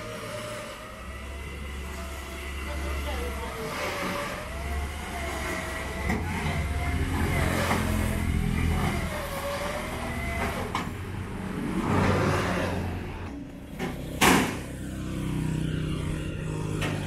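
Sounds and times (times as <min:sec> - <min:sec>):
truck engine running: 0:00.0 - 0:17.0
winch whine: 0:00.0 - 0:17.0.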